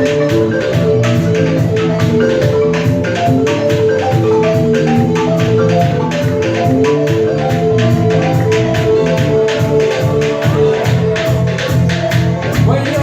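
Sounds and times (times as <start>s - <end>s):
balafon melody: 0.0s - 13.0s
hand percussion beat: 0.0s - 13.0s.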